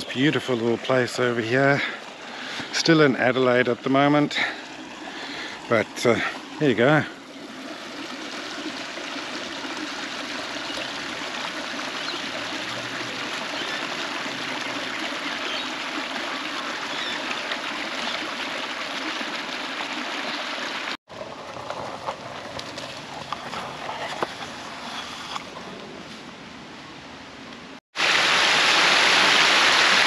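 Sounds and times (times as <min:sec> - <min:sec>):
water running over rocks: 0:00.0 - 0:24.8, 0:28.0 - 0:30.0.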